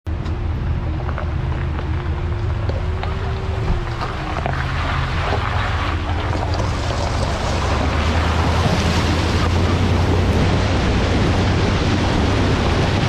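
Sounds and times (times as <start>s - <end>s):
truck engine at low crawl: 0.1s - 13.0s
water rushing from tyre: 1.0s - 13.0s.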